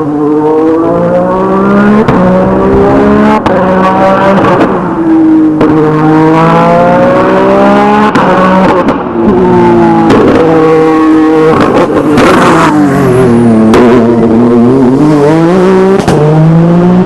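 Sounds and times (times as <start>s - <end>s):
race car engine at full throttle: 0.0s - 17.0s.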